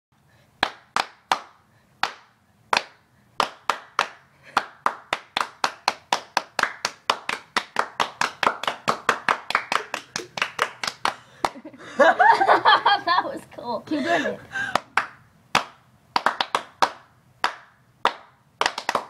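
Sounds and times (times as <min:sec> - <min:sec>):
hands clapping: 0:00.6 - 0:11.7, 0:14.7 - 0:19.0.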